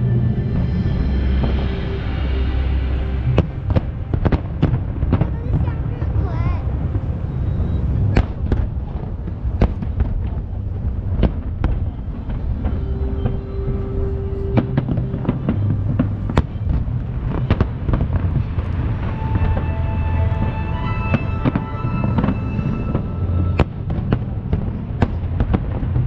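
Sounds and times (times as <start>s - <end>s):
fireworks bangs: 3.3s - 26.0s.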